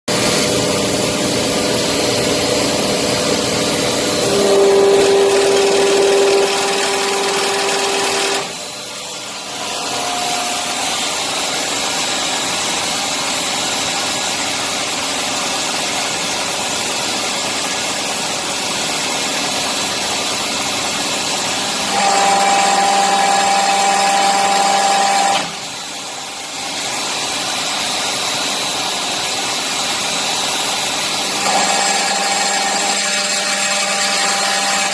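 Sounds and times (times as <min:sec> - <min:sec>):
hydraulic pump whirring: 0:00.1 - 0:34.9.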